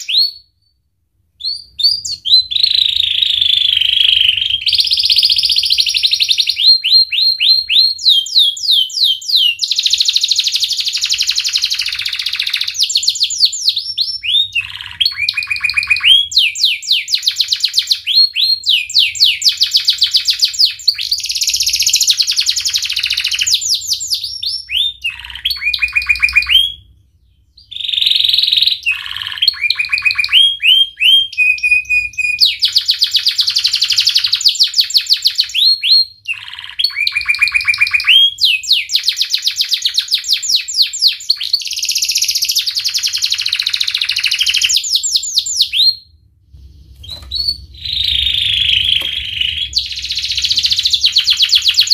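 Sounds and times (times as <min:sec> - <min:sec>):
canary singing trills: 0:01.4 - 0:46.2, 0:46.8 - 0:51.9.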